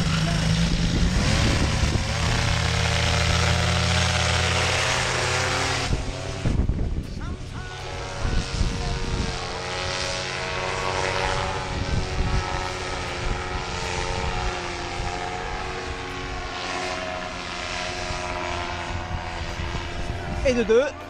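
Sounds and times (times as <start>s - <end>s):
paramotor engine and propeller: 0.0s - 21.0s
wind rumbling on microphone: 0.0s - 21.0s.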